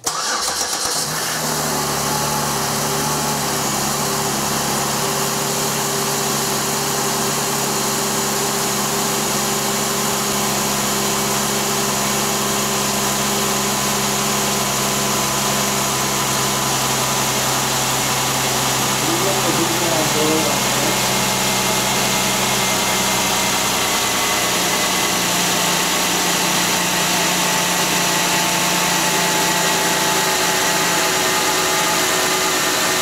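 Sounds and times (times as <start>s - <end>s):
car engine fast idle: 0.0s - 33.0s
car engine starting: 0.0s - 33.0s.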